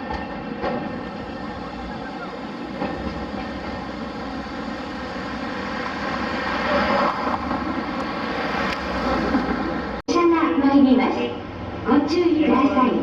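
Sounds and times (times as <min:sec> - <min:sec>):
train running: 0:00.0 - 0:13.0.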